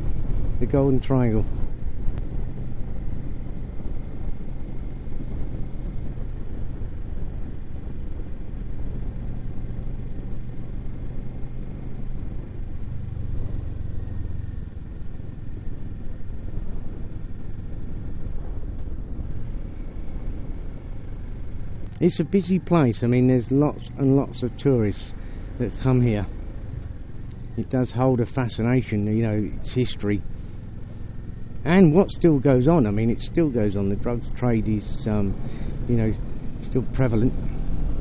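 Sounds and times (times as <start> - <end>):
motorcycle engine running: 0.0 - 38.0
wind and road noise: 0.0 - 38.0.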